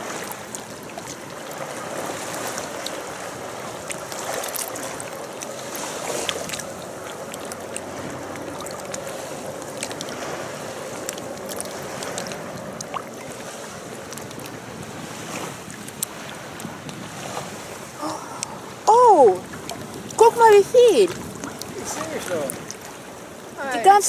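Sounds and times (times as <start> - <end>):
wind on microphone: 0.0 - 23.6
water lapping on rocky shore: 0.0 - 24.0.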